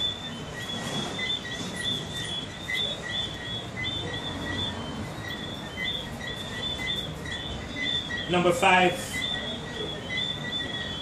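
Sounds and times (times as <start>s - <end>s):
small animal high chirps: 0.0s - 11.0s.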